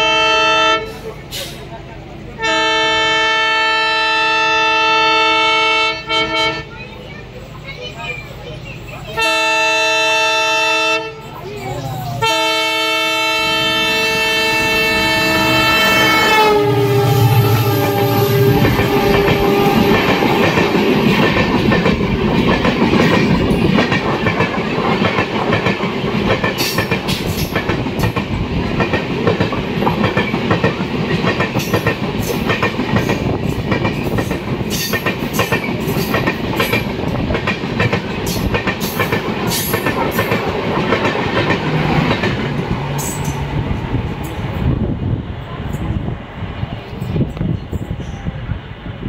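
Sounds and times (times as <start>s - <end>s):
train passing at speed: 0.0s - 49.0s.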